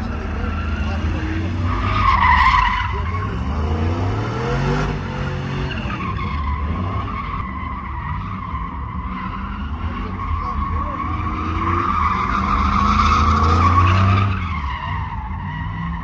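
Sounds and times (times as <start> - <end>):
tires squealing: 0.0 - 16.0
truck engine revving: 0.0 - 16.0.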